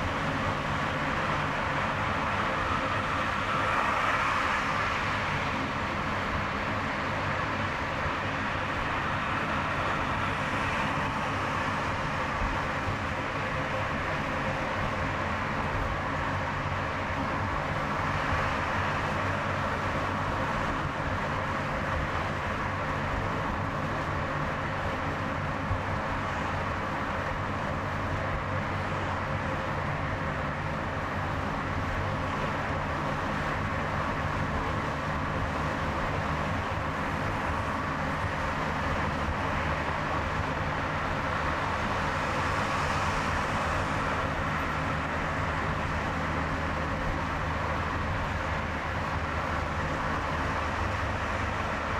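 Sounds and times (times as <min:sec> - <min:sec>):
car driving on highway: 0:00.0 - 0:51.9.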